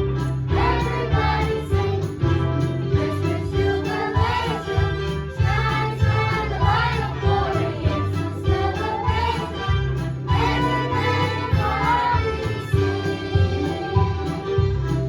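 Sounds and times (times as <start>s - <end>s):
group of voices singing: 0.4s - 14.7s.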